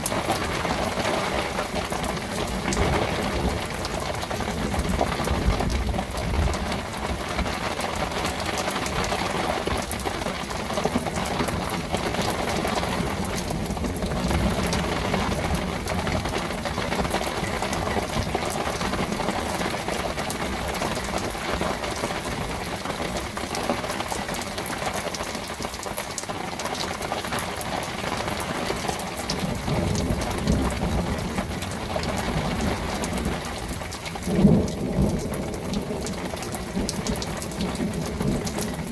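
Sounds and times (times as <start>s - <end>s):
raindrops ticking close by: 0.0s - 38.9s
torrential rain falling: 0.0s - 38.9s.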